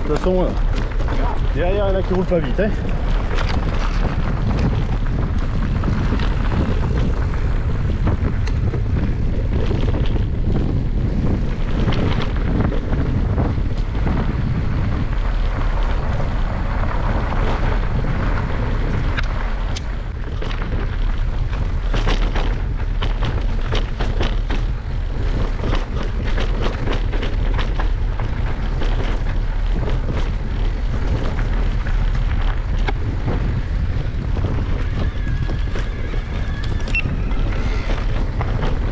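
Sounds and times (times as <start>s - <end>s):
bike rattling over rough trail: 0.0s - 38.9s
wind buffeting microphone: 0.0s - 38.9s.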